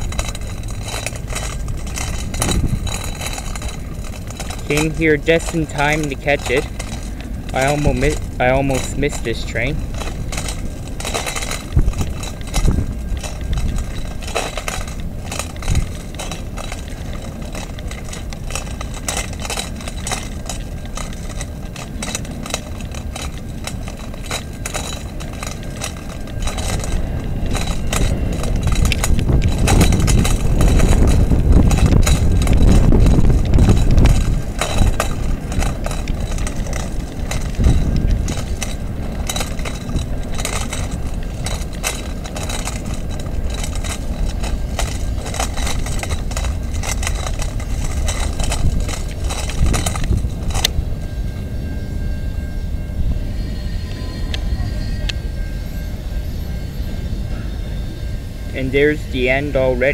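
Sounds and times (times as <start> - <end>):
low rumble: 0.0 - 58.6
freight train cars clattering: 0.0 - 59.9
jingling metallic clinks: 0.0 - 59.9
road traffic: 0.0 - 59.9.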